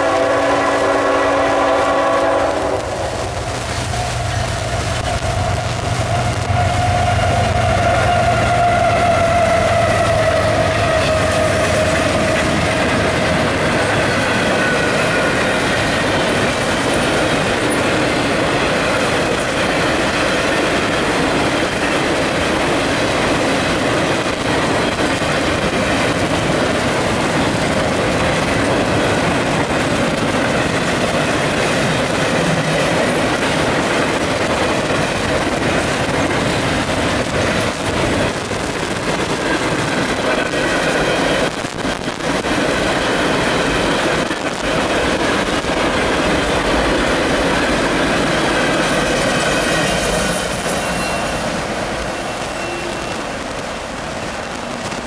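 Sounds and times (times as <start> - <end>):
diesel locomotive engine hum: 0.0 - 55.0
train wheels on rail: 0.0 - 55.0.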